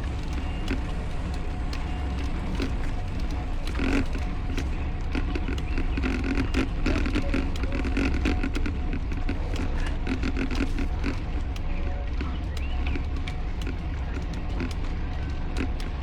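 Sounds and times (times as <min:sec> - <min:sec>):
bicycle clicks and rattles: 0:00.0 - 0:16.0
wind rumbling on microphone: 0:00.0 - 0:16.0.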